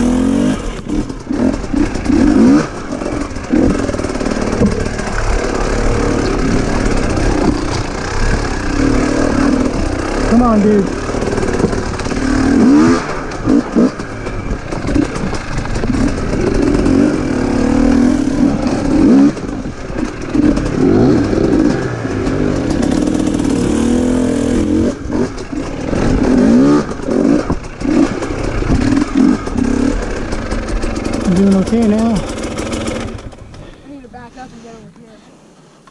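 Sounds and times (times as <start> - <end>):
dirt bike engine revving: 0.0 - 33.8.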